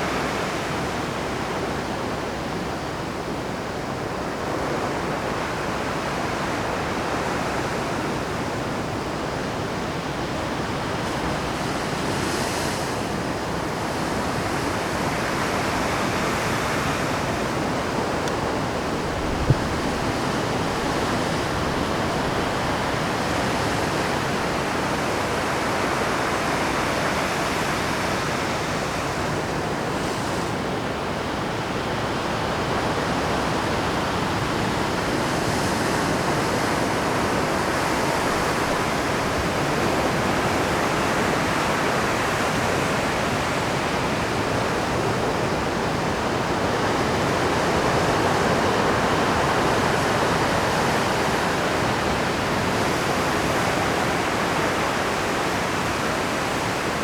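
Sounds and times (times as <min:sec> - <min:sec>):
surf crashing on rocky shore: 0:03.6 - 0:57.0.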